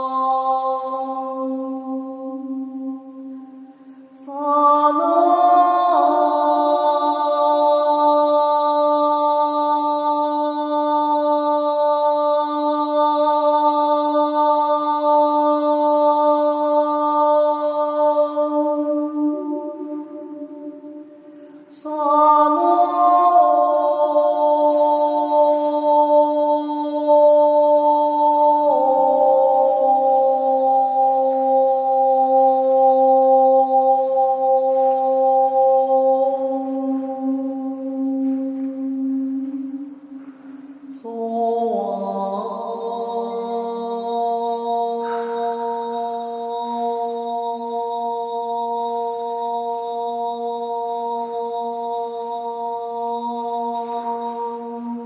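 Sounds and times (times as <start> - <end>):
meditative drone tone: 0.0 - 55.0
voice chanting a held note: 1.3 - 55.0.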